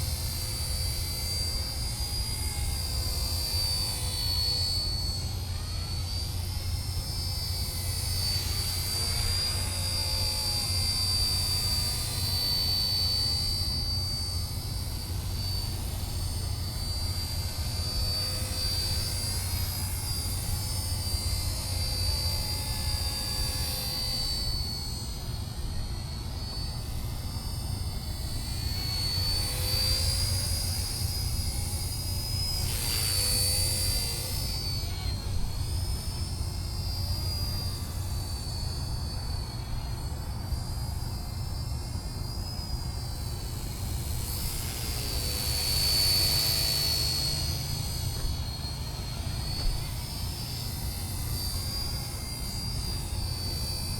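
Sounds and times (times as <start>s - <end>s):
model helicopter motor whine: 0.0s - 53.9s.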